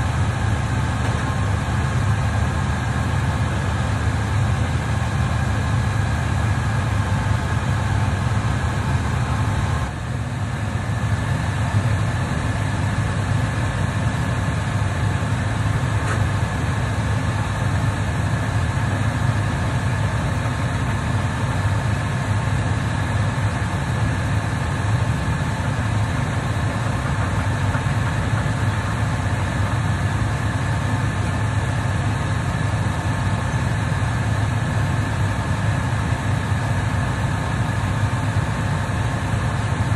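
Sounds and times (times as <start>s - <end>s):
engine running with whine: 0.0s - 39.9s.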